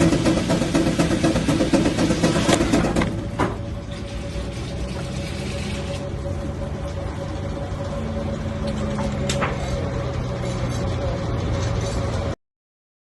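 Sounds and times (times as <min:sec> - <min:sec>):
steam traction engine running: 0:00.0 - 0:12.4.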